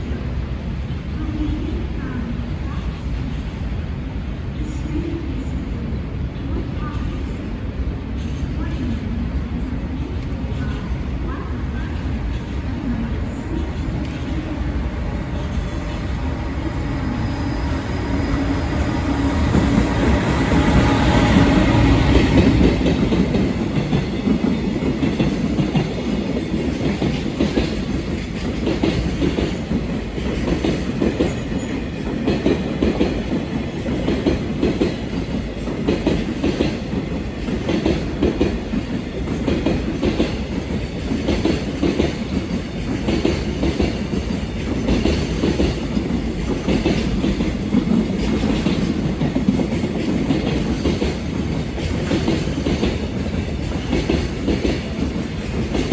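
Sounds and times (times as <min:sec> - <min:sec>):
train rumble: 0:00.0 - 0:55.9
train wheels clacking on rails: 0:10.0 - 0:55.9.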